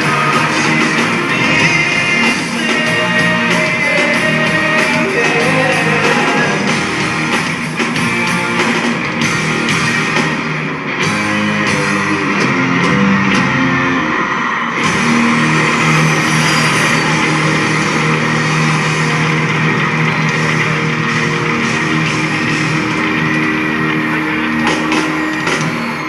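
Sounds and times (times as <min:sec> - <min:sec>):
drums: 0:00.0 - 0:26.0
electric guitar: 0:00.0 - 0:26.0.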